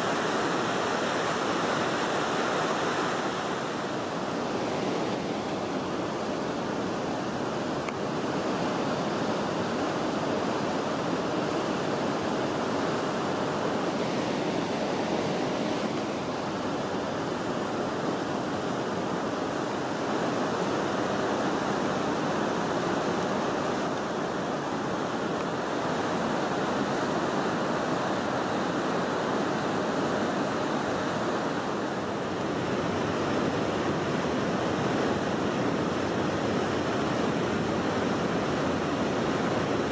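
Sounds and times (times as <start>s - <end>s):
river water rushing at a weir: 0.0s - 39.9s.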